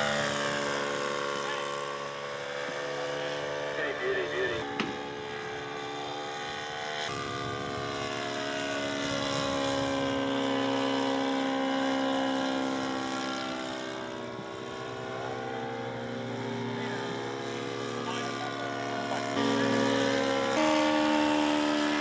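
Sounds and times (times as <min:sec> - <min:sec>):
model airplane engine droning: 0:00.0 - 0:22.0.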